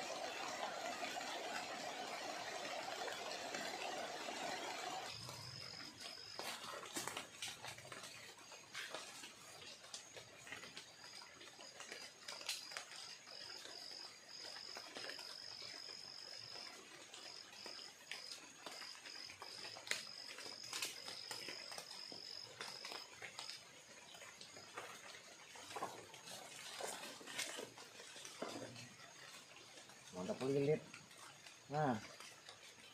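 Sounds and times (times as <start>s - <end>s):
insect trilling: 0.1s - 32.9s.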